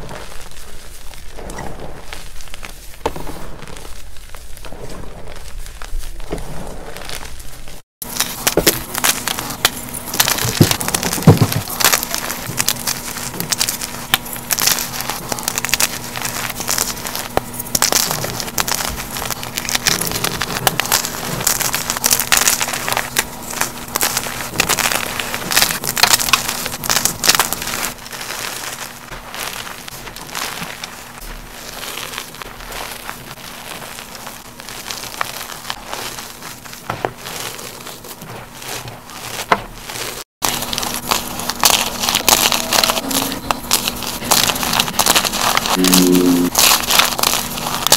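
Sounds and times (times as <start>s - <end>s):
chalk crunching by hand: 0.0s - 47.9s
hands pressing chalk powder: 0.0s - 47.9s.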